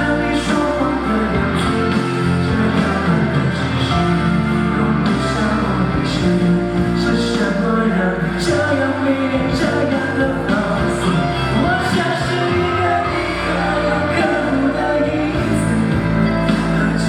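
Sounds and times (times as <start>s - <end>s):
pop backing track with drums: 0.0s - 17.0s
young man singing: 0.0s - 17.0s.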